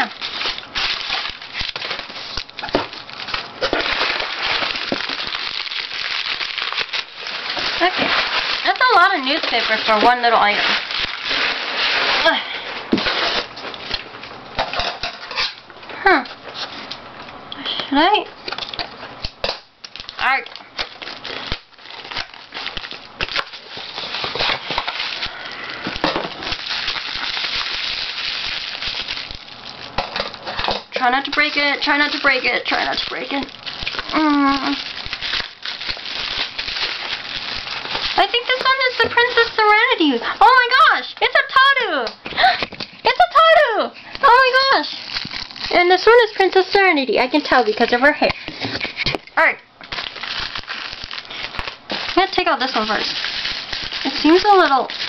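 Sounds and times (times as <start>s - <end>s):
newspaper rustling and crackling: 0.0s - 14.0s, 19.9s - 41.8s, 44.2s - 49.1s, 49.8s - 55.0s
bubble wrap crinkling: 0.0s - 14.4s, 18.4s - 49.2s, 49.8s - 55.0s.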